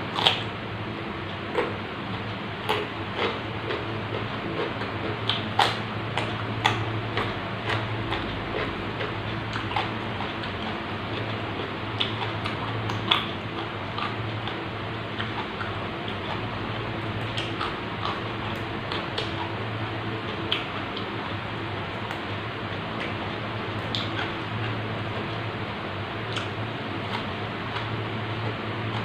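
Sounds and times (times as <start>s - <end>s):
close-miked chewing: 0.0s - 0.6s, 1.2s - 29.0s
steady hiss and low hum: 0.0s - 29.0s.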